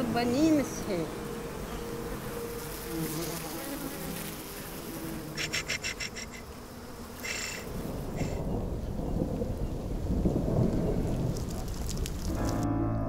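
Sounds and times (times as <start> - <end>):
bees buzzing: 0.0 - 12.6.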